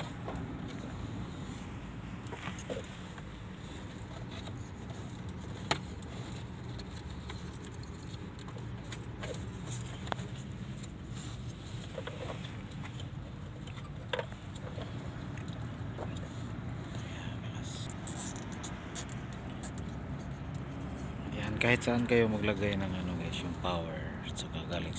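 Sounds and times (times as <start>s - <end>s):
low background rumble: 0.0s - 24.9s.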